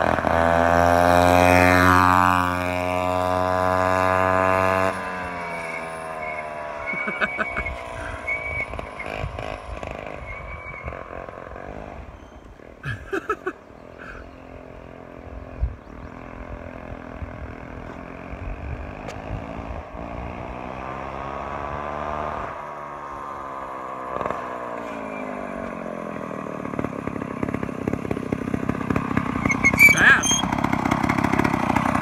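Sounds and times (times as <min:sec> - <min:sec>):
go-kart engine revving: 0:00.0 - 0:32.0.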